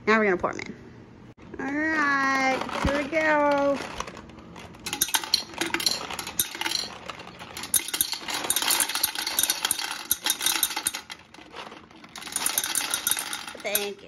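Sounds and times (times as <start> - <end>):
gumballs clattering against glass: 2.2 - 14.0.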